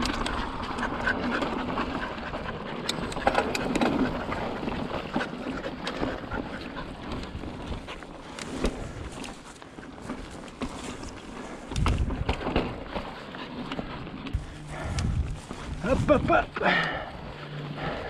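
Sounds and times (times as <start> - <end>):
bike clicking and rattling: 0.0 - 18.0
bike tyre and wind rush: 0.0 - 18.0.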